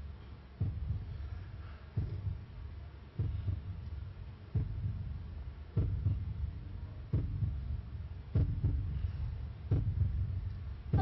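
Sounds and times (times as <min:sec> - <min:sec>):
slow deep thumping beat: 0:00.0 - 0:11.0.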